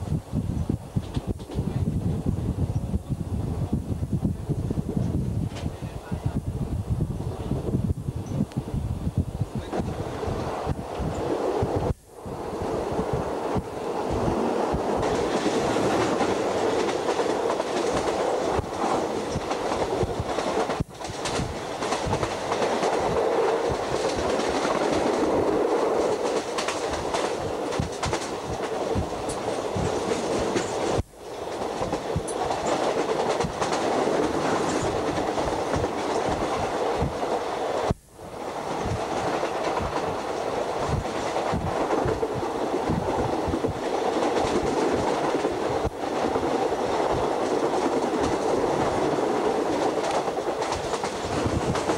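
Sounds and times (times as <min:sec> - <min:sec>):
clickety-clack at rail joints: 0:00.0 - 0:06.4, 0:09.6 - 0:12.0, 0:12.9 - 0:51.9
train wheels rumbling on rails: 0:00.0 - 0:51.9.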